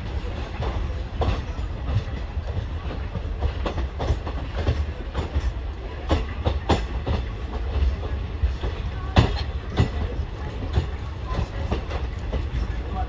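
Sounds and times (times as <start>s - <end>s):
train coaches rumbling: 0.0s - 13.0s
wheels clicking over rail joints: 0.0s - 13.0s.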